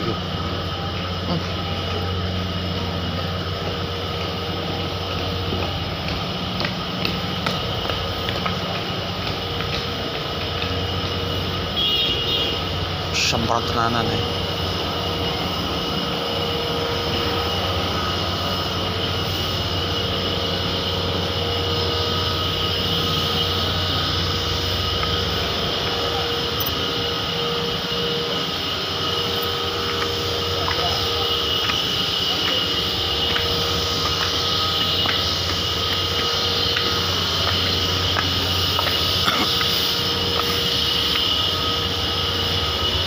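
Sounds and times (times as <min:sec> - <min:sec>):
heavy machinery drone: 0:00.0 - 0:43.0.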